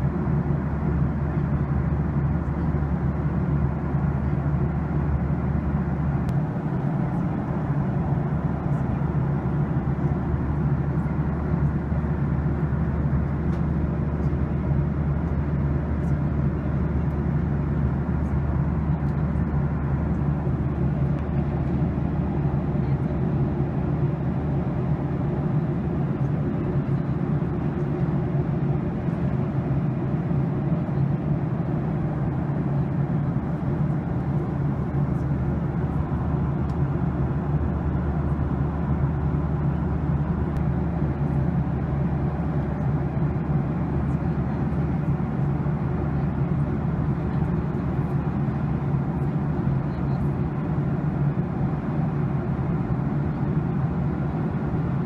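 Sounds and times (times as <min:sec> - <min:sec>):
jet airliner cabin noise: 0:00.0 - 0:55.0.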